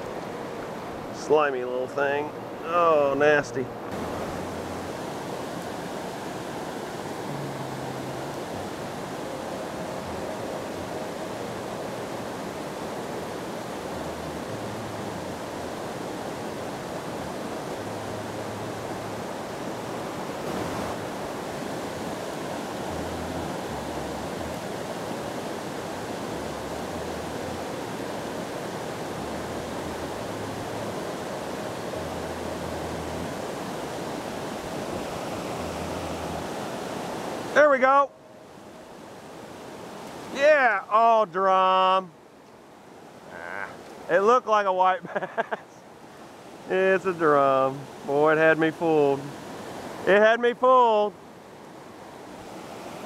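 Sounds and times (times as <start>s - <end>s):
river water rushing over rapids: 0.0s - 53.0s.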